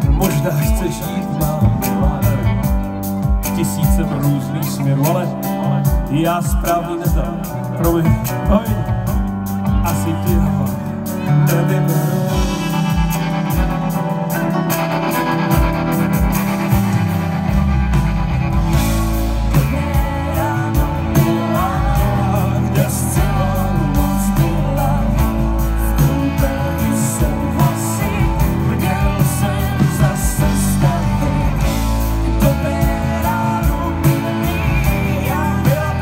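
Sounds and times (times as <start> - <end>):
live pop-rock band playing: 0.0 - 36.0
person singing: 0.0 - 36.0.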